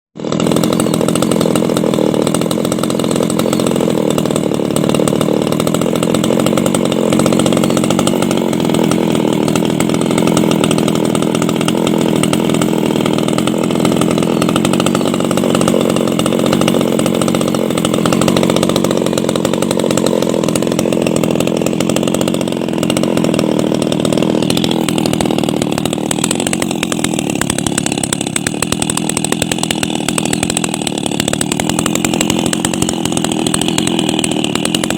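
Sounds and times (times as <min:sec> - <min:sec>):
chainsaw running at high revs: 0:00.1 - 0:34.9.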